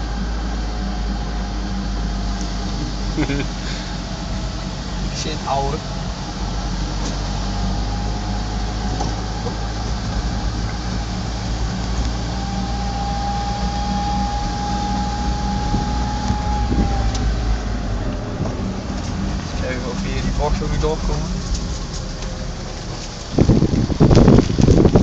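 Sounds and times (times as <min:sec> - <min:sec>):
car engine and road rumble: 0:00.0 - 0:25.0
thin steady whine: 0:00.0 - 0:25.0.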